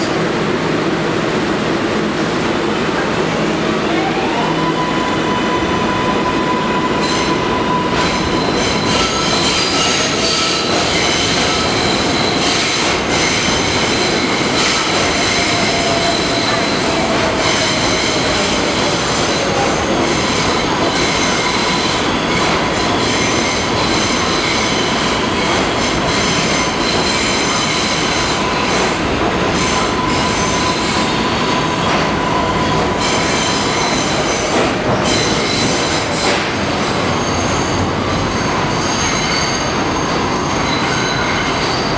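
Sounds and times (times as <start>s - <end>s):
train wheel clack: 7.2s - 41.9s.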